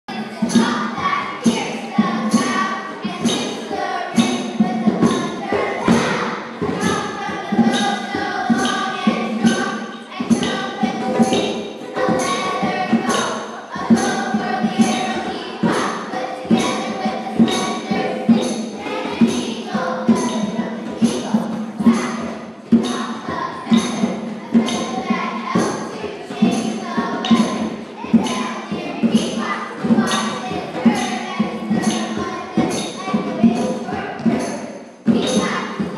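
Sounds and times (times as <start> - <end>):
children singing or chanting: 0.0 - 35.9
light percussion hits: 0.1 - 35.9
music with strong drum beat: 0.1 - 35.9.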